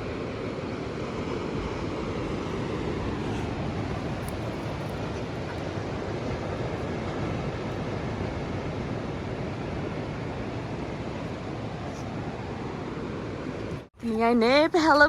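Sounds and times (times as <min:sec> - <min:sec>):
ocean surf: 0:00.0 - 0:13.9
wind: 0:00.0 - 0:15.0.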